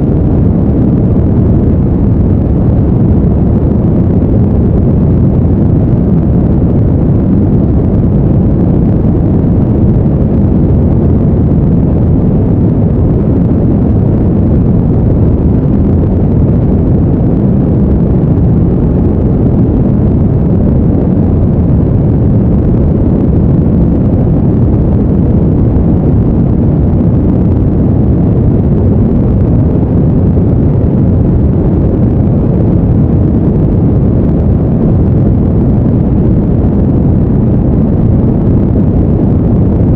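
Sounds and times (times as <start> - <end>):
deep rumbling noise: 0.0 - 39.9.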